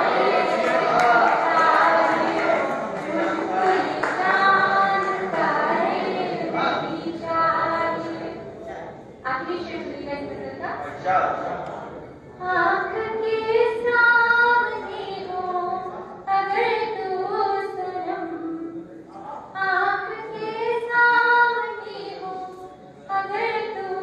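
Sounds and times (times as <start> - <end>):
woman singing into microphone: 0.0 - 8.5, 12.4 - 18.8, 19.5 - 24.0.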